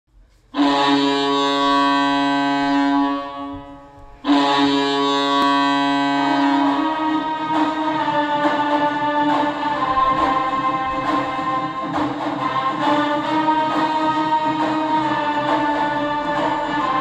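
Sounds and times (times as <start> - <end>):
goal horn blasts: 0.5 - 17.0.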